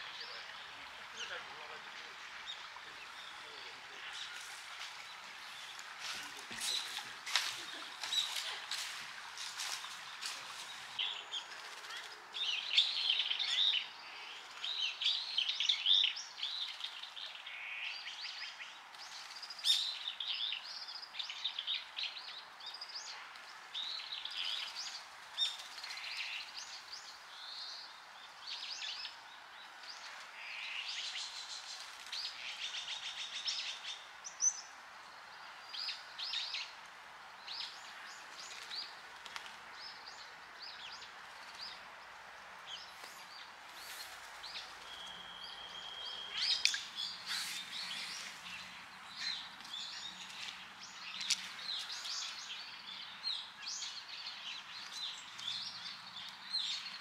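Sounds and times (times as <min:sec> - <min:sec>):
flowing stream: 0:00.0 - 0:17.6, 0:21.4 - 0:57.0
small birds chirping: 0:00.0 - 0:57.0.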